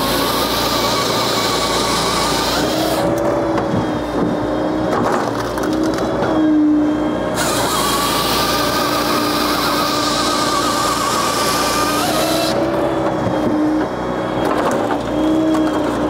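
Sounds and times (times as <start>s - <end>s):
firewood processor droning: 0.0s - 16.0s.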